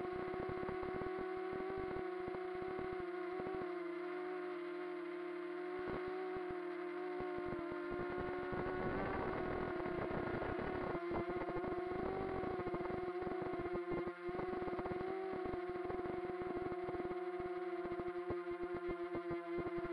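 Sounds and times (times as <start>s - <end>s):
drone motors whining: 0.0s - 18.2s.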